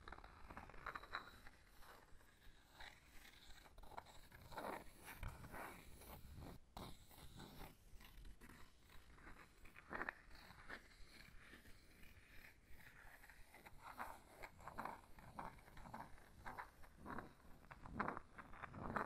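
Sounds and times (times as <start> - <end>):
scratching on wood: 3.0 - 19.0.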